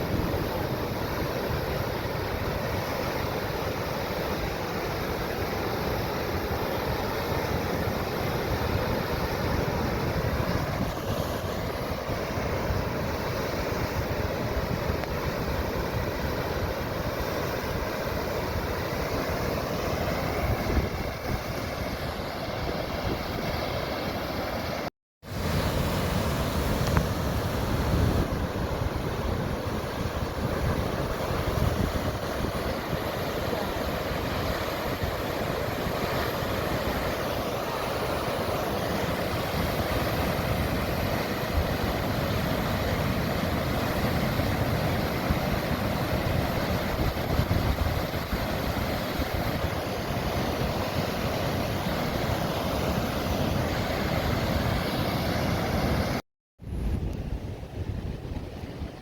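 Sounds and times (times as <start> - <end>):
wind rumbling on microphone: 0.0 - 59.0.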